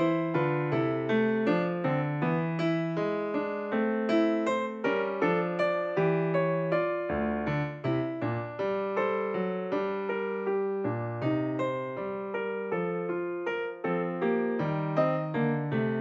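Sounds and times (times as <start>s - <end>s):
electric piano melody: 0.0s - 16.0s.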